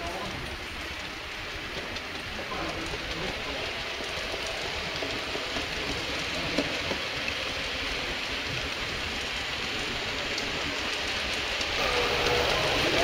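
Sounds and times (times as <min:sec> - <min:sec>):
model train wheels and motor whirring: 0:00.0 - 0:13.0.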